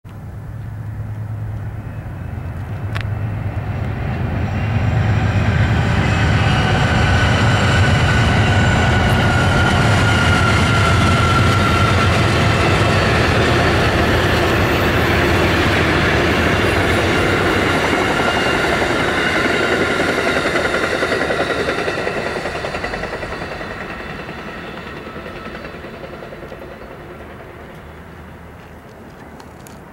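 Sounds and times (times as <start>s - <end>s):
diesel locomotive engine rumble: 0.1s - 29.9s
train wheels rushing on rails: 0.8s - 29.9s.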